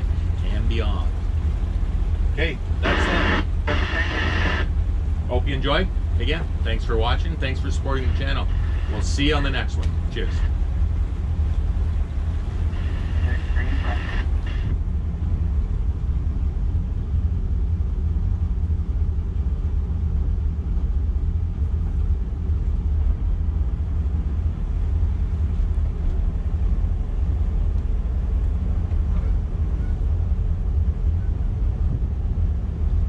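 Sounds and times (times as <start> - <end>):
boat engines rumbling: 0.0 - 33.0.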